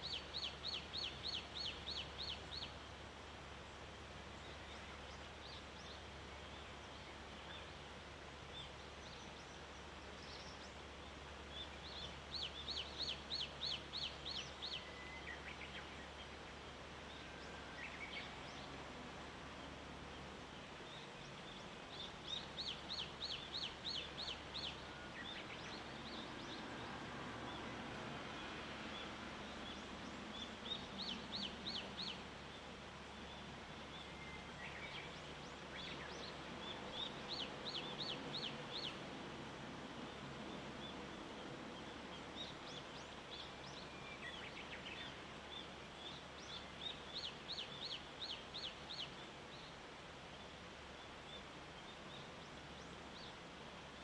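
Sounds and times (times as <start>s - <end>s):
faint wash of noise: 0.0s - 54.0s.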